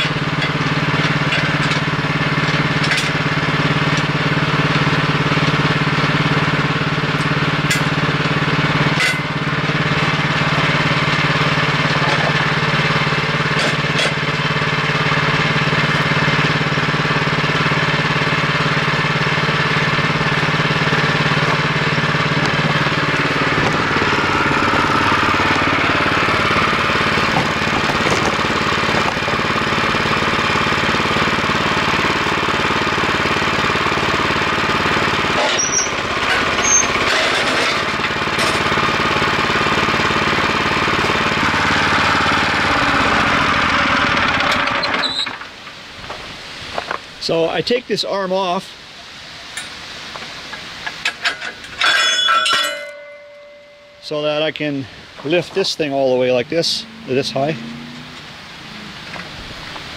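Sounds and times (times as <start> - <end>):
small gasoline engine running: 0.0 - 45.6, 51.2 - 59.9.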